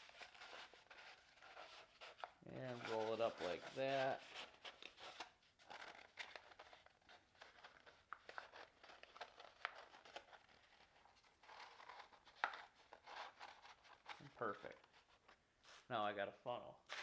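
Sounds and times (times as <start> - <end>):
paper plate crinkling: 0.0 - 15.0.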